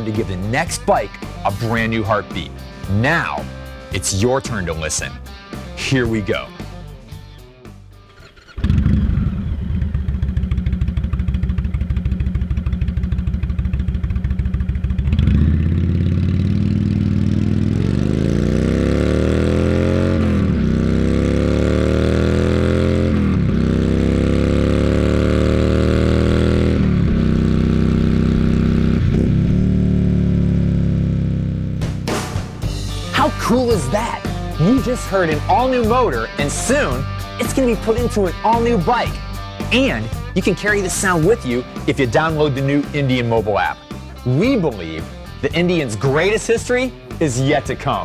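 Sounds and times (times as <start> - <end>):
motorcycle engine starting and revving: 7.1 - 48.0.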